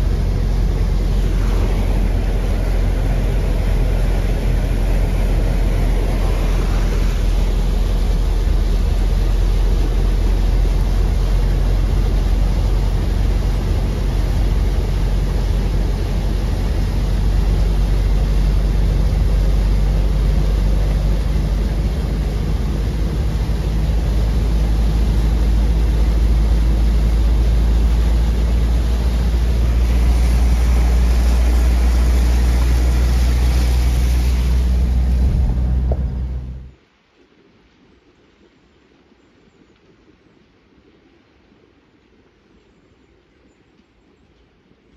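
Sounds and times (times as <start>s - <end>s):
water spraying at wheels: 0.0s - 36.7s
car engine and road drone: 0.0s - 36.8s.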